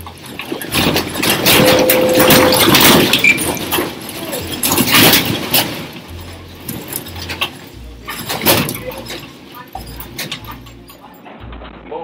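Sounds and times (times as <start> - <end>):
room rumbling and rattling: 0.0 - 12.0.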